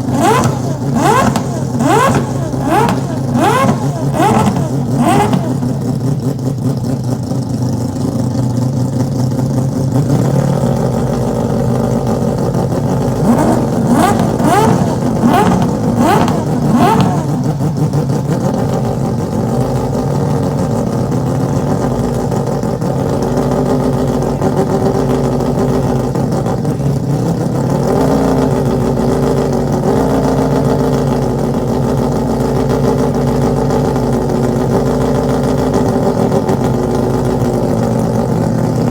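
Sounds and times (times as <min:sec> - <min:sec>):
rotary engine idling and revving: 0:00.0 - 0:38.9.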